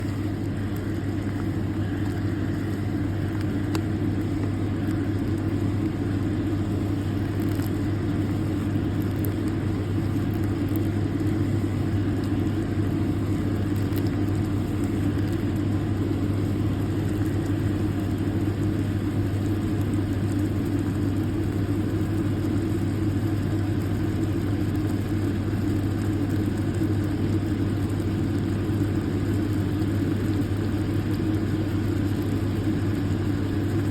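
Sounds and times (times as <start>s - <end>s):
low mechanical hum: 0.0s - 33.9s.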